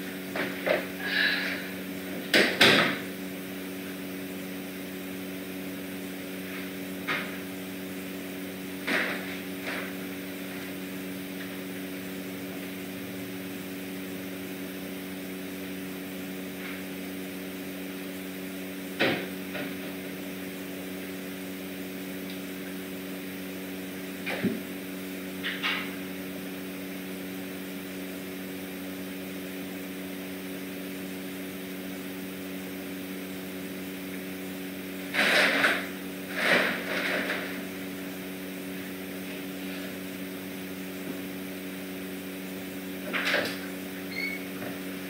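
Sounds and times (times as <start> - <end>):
low hum of room equipment: 0.0 - 45.0.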